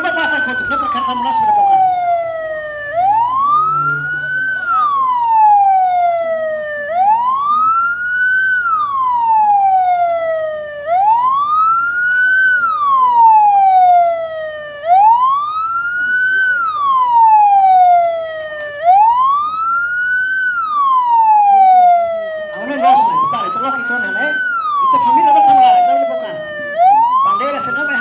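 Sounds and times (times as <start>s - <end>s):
ambulance siren wailing: 0.0s - 28.0s.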